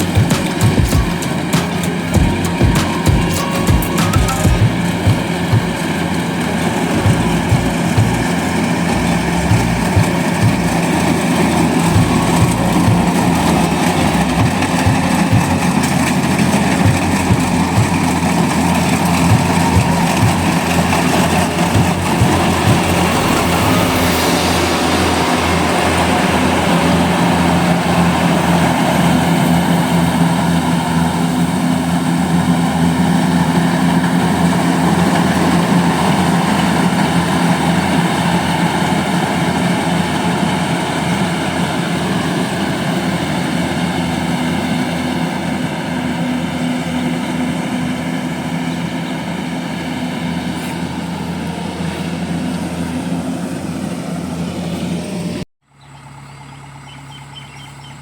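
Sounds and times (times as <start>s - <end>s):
combine harvester engine droning: 0.0s - 58.0s.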